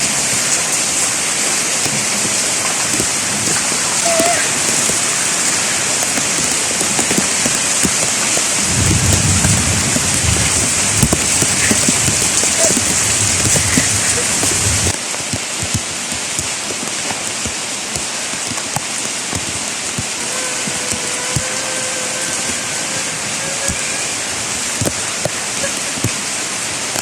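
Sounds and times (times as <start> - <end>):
heavy rain falling: 0.0 - 27.0
raindrops ticking on surfaces: 0.0 - 27.0.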